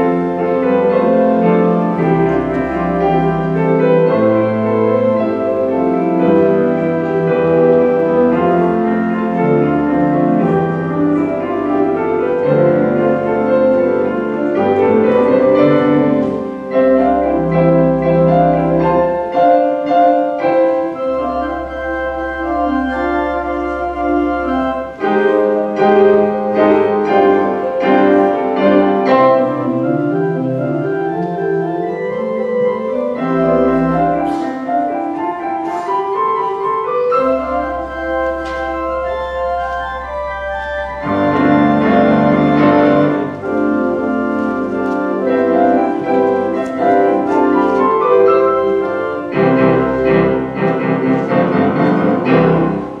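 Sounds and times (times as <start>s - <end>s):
piano playing chords: 0.0s - 53.0s
pipe organ pedal notes: 0.0s - 53.0s.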